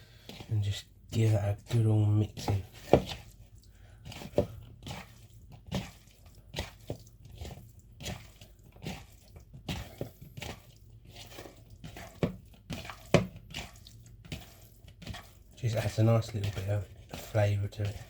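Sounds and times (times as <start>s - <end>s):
utensil stirring wet food: 0.0s - 18.0s.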